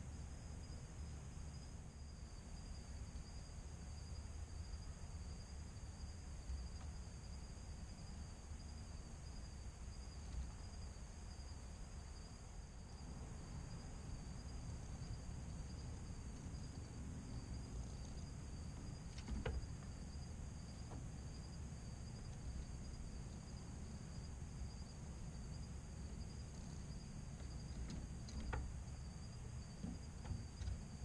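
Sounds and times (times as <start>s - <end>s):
high-pitched insect chorus: 0.0s - 31.0s
low outdoor rumble: 0.0s - 31.0s.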